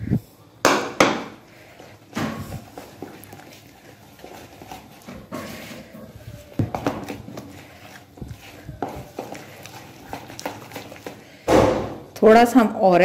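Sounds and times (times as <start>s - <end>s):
batter squelching: 1.2s - 12.6s.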